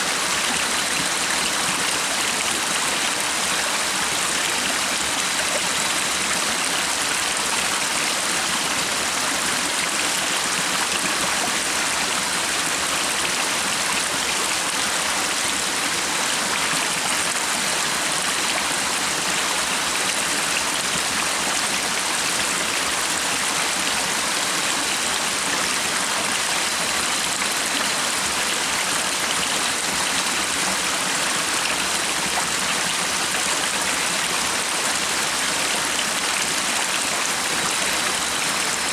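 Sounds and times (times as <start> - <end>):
stream flowing water: 0.0 - 38.9.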